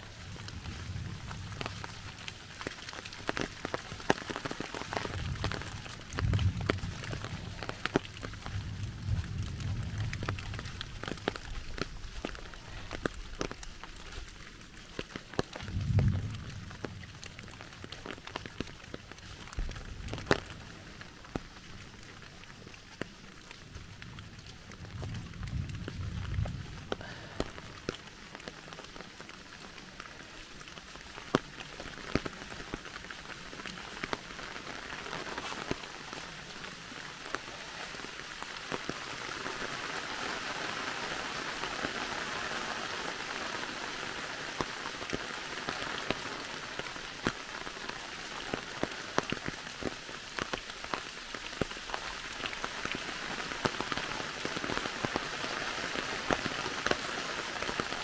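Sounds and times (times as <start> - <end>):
rain hissing: 0.0 - 58.0
sharp raindrops: 0.0 - 58.0.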